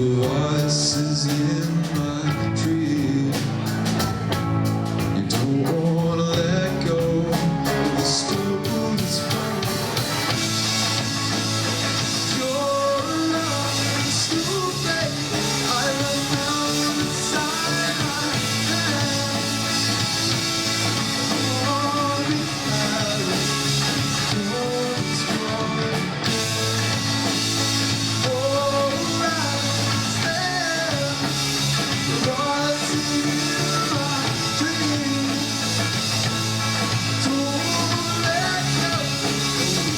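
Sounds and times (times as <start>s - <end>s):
person singing: 0.0s - 3.9s, 5.1s - 10.1s, 12.2s - 35.9s, 37.1s - 39.9s
bass guitar: 0.0s - 39.9s
drum kit: 0.0s - 39.9s
electric guitar: 0.0s - 39.9s.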